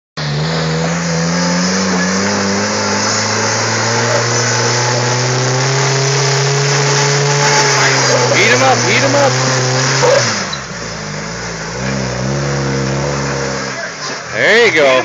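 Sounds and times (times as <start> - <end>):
engine running at low revs: 0.2 - 13.9.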